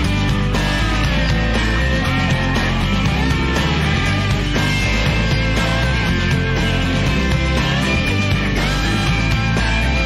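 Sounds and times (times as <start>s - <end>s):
instrumental rock music with guitar: 0.0s - 10.0s.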